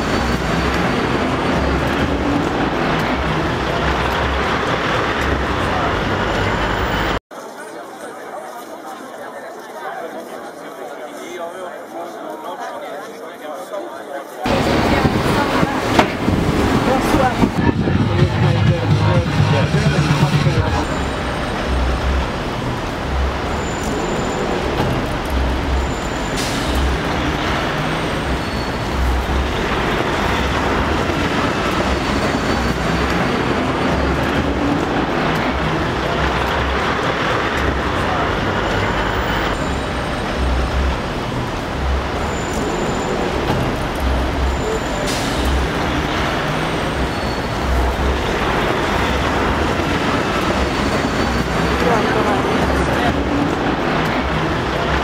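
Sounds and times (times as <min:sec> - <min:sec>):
road traffic: 0:00.0 - 0:07.6, 0:14.4 - 0:55.0
voices of passers-by: 0:00.0 - 0:55.0.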